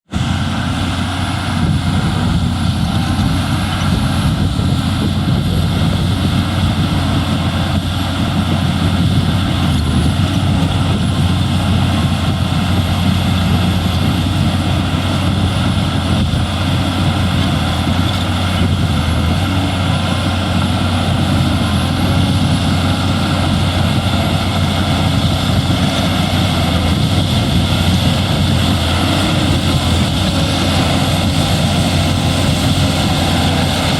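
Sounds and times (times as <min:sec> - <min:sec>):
bulldozer diesel engine droning: 0:00.0 - 0:33.9.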